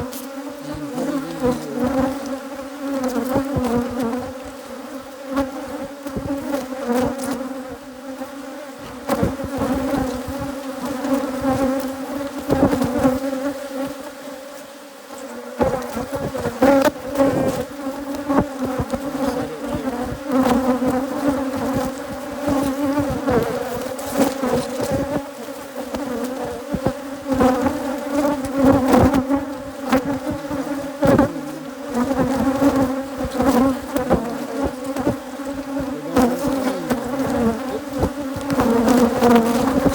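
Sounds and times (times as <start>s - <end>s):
swarm of bees buzzing: 0.0s - 39.9s.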